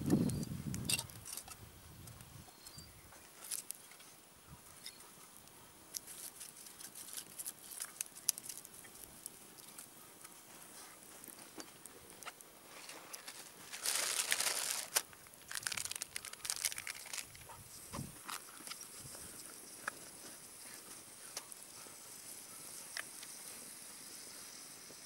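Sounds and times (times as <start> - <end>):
campfire crackling: 0.0 - 2.5, 3.1 - 25.0
rustling hiss: 0.0 - 25.0.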